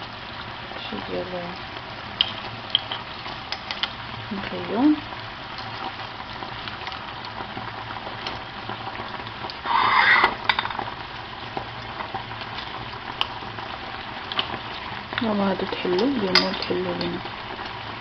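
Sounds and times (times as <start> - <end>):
seafood sizzling in hot oil: 0.0 - 18.0.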